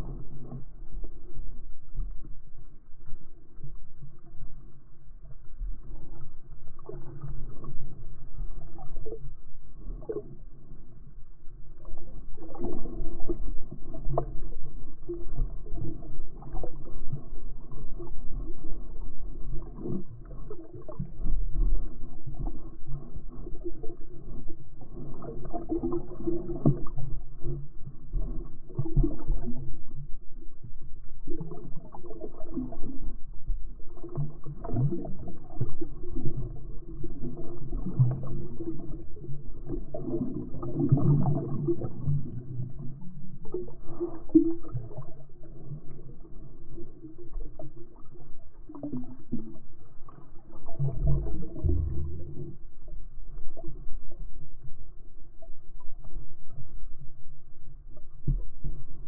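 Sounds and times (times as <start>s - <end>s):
low rumble: 0.0s - 59.0s
underwater sloshing and gurgling: 0.0s - 59.0s.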